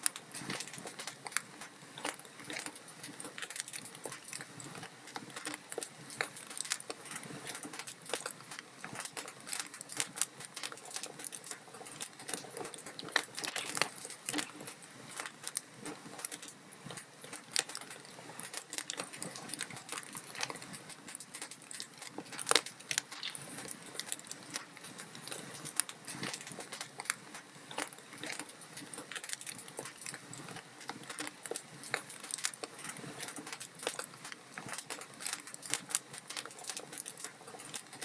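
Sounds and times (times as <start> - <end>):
wood logs crackling in fireplace: 0.0 - 38.0.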